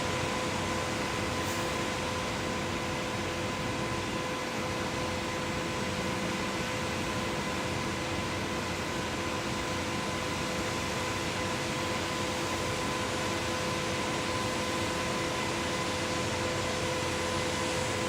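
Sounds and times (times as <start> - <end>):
concrete pump engine droning: 0.0 - 18.0.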